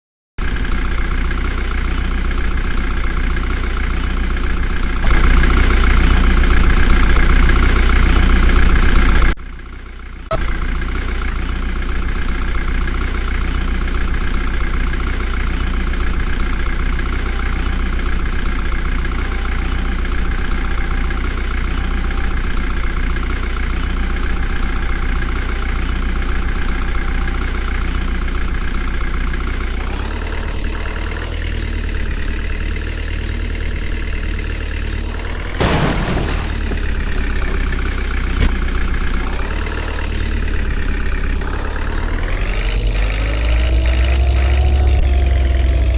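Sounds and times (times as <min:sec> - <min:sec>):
heavy diesel engine running: 0:00.4 - 0:45.9.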